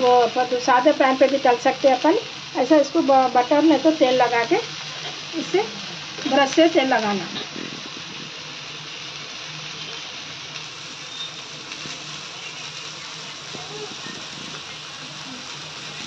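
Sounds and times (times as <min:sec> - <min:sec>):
kebabs sizzling in grill pan: 0:00.0 - 0:16.0.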